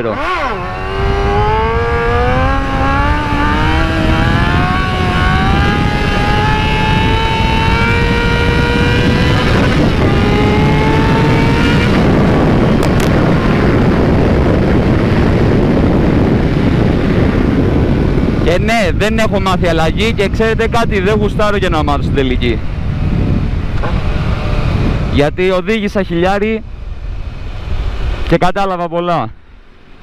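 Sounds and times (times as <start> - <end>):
motorcycle engine accelerating: 0.0 - 25.3
wind rushing on microphone: 0.0 - 30.0.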